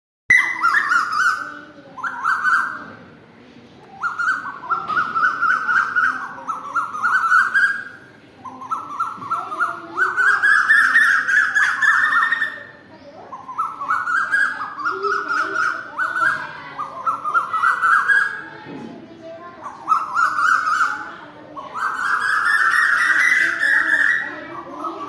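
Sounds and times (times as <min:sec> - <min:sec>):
birds chattering calls: 0:00.3 - 0:25.0.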